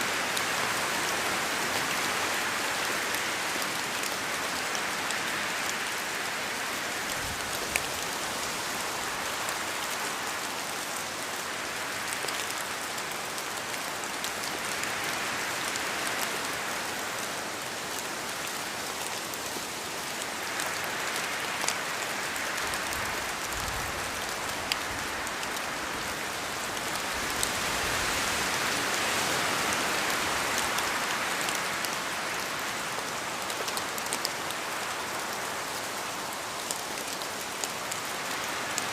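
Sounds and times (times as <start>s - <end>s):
rain falling through trees: 0.0s - 38.9s.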